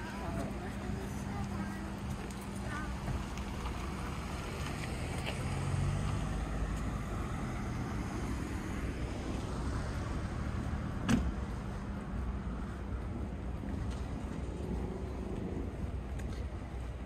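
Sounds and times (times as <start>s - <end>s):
motor vehicles rumbling: 0.0s - 17.0s.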